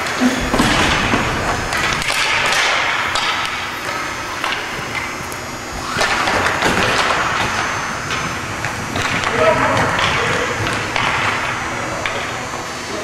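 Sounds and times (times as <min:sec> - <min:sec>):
hockey sticks and puck knocking: 0:00.0 - 0:12.4
noisy background: 0:00.0 - 0:13.0.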